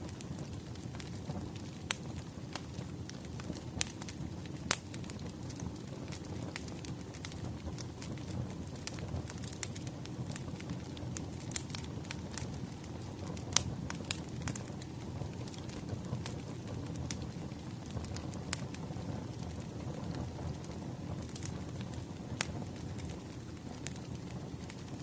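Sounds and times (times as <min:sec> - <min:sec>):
fire popping and snapping: 0:00.0 - 0:25.0
wood fire crackling: 0:00.0 - 0:25.0.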